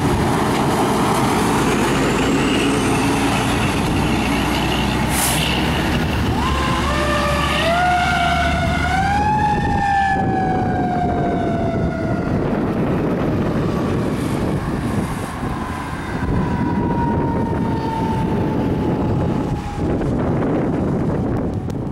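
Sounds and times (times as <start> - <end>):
truck and traffic rumble: 0.0 - 21.9.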